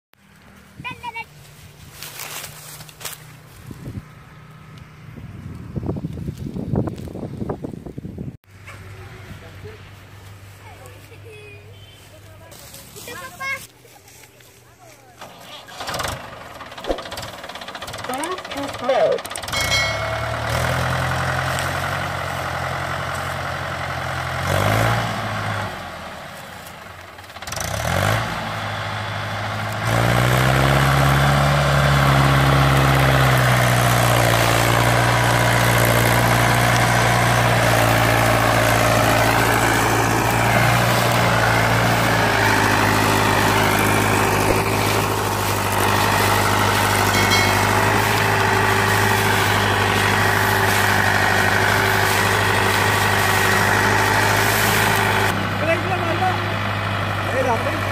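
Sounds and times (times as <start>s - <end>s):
tractor diesel engine running: 0.2s - 57.9s.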